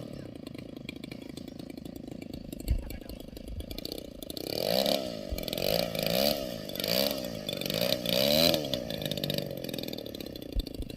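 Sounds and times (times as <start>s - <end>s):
model aircraft engine revving: 0.0s - 10.9s.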